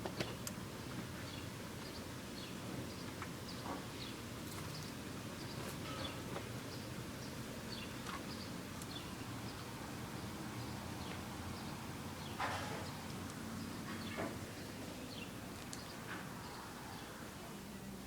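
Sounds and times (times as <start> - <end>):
small birds chirping: 1.2 - 17.2.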